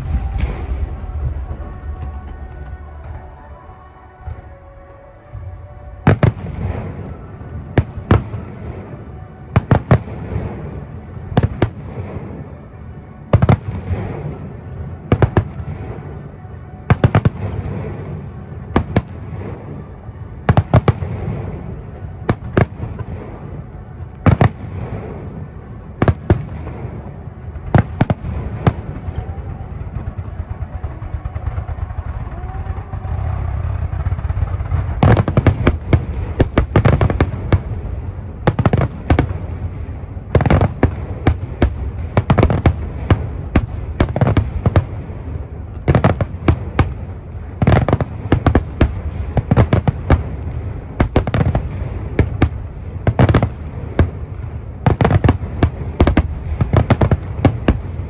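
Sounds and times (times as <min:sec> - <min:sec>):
low rumble: 0:00.0 - 0:58.0.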